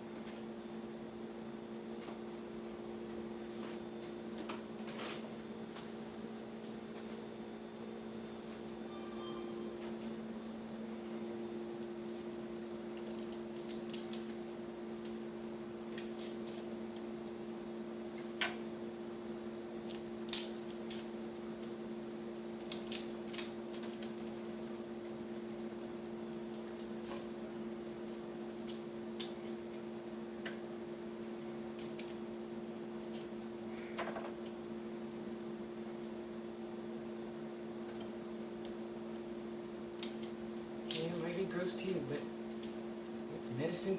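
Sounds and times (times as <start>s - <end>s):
steady electrical hum: 0.0s - 43.9s.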